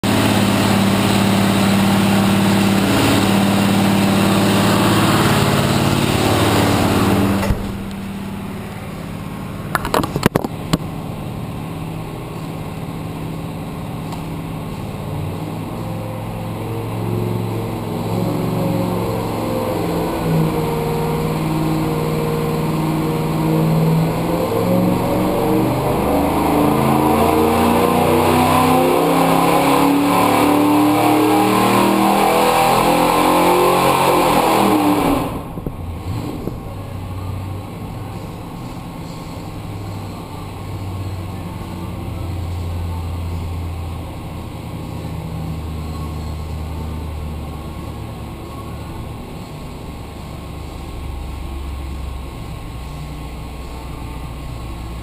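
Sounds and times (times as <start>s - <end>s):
engine running on a dyno: 0.0s - 55.0s.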